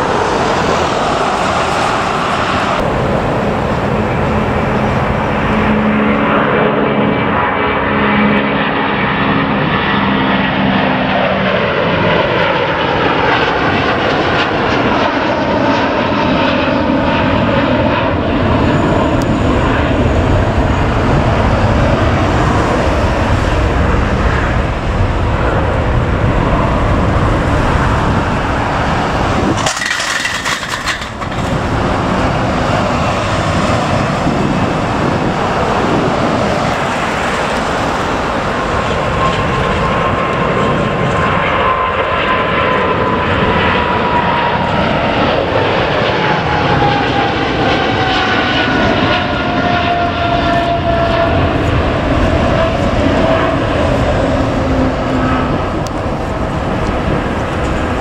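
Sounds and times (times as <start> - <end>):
jet engines climbing overhead: 0.0 - 58.0
jet take-off roar: 0.0 - 58.0.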